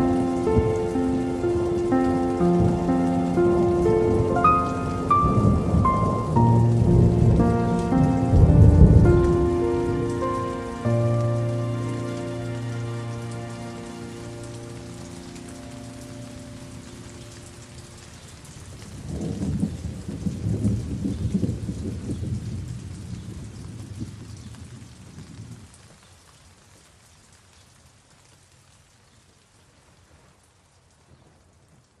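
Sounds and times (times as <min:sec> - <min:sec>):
thunder rumbling: 0:00.0 - 0:25.7
steady rain falling: 0:00.0 - 0:32.0.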